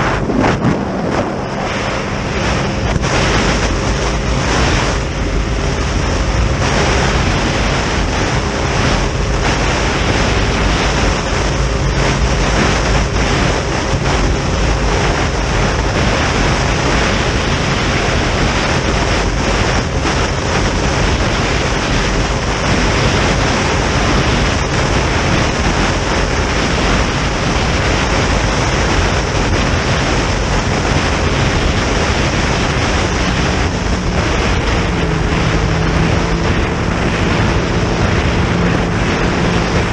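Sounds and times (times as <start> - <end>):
boat engine droning: 0.0 - 39.9
water rushing past boat hull: 0.0 - 39.9
wind buffeting microphone: 0.0 - 39.9.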